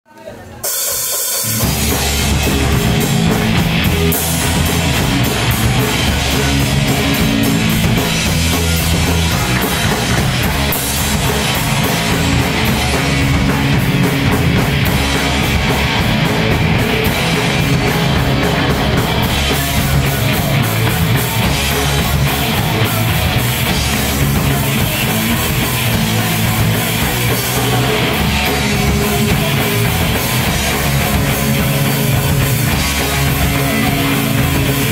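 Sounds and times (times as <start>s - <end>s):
live rock band playing: 0.6s - 34.9s.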